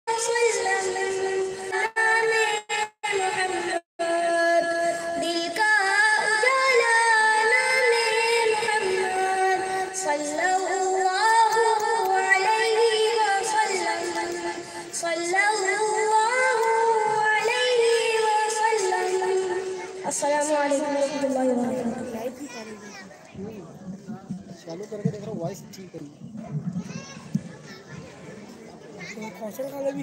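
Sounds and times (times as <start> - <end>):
boy singing devotional song: 0.1 - 25.7.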